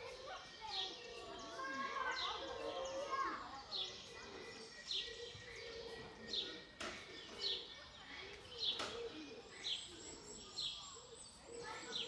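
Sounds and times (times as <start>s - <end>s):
low background murmur: 0.0s - 12.0s.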